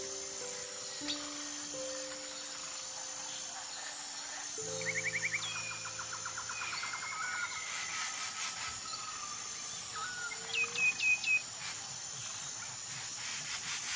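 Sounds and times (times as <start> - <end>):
steady high-pitched hum: 0.0 - 13.9.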